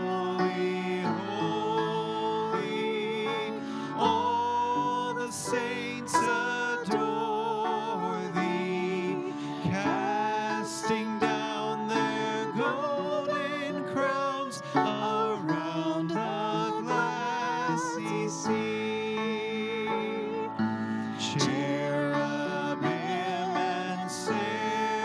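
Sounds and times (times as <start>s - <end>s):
instrumental melody with held notes: 0.0s - 25.0s
plucked string accompaniment: 0.0s - 25.0s.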